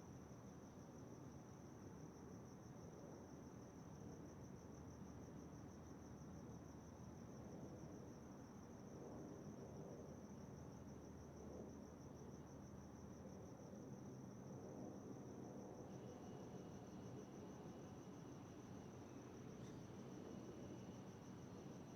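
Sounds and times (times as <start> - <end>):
crickets chirping: 0.1 - 21.9.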